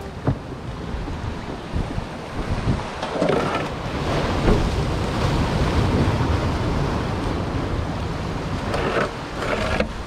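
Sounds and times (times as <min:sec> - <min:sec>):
ocean surf against concrete: 0:00.0 - 0:10.0
wind buffeting the microphone: 0:00.0 - 0:10.0.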